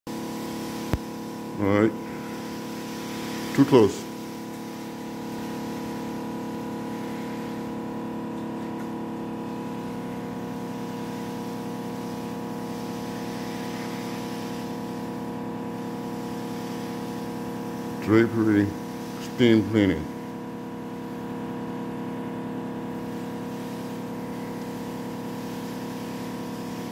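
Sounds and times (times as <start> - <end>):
steam cleaning machine humming: 0.1 - 26.9.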